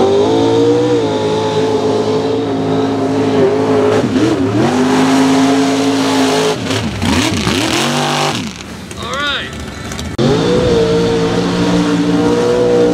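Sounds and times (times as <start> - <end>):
truck engine at full throttle: 0.0 - 12.9.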